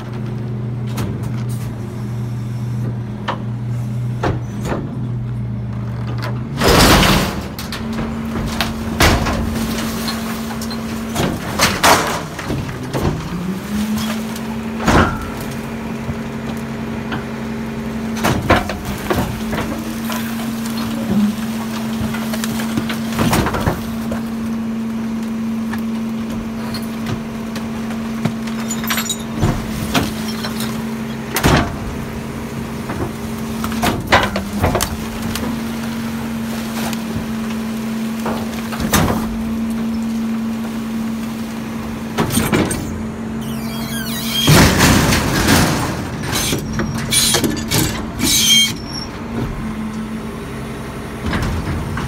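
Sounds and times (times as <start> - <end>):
garbage truck engine and hydraulics: 0.0 - 52.0.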